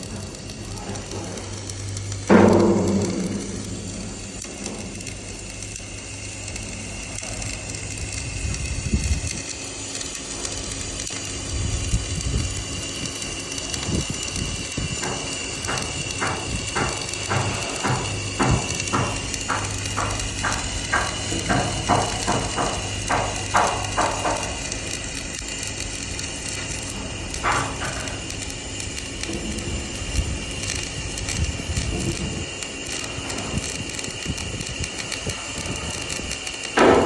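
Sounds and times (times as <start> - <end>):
machine hum: 0.0 - 37.0
regular mechanical clicking: 0.0 - 37.0.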